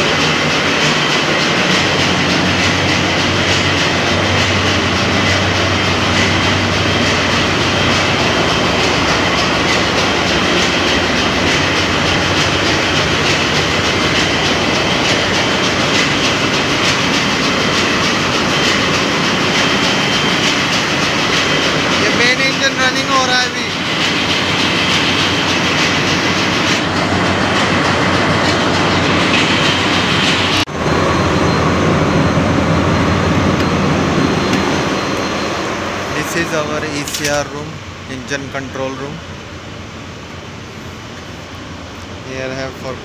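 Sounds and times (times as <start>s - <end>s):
diesel engines roaring: 0.0s - 43.0s.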